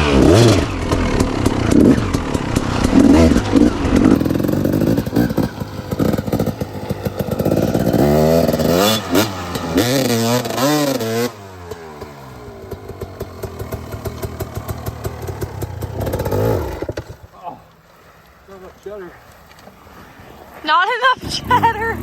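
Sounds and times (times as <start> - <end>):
dirt bike engine revving: 0.0 - 17.4, 20.7 - 22.0.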